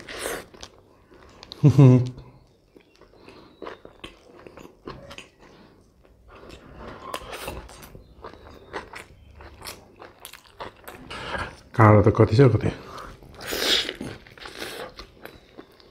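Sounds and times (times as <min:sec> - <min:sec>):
crunchy chewing of sandwich: 0:00.0 - 0:01.8, 0:02.5 - 0:11.7, 0:12.9 - 0:15.9.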